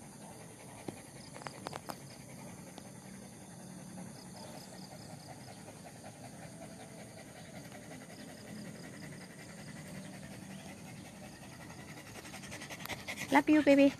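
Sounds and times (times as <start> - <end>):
dog panting: 0.0 - 13.9.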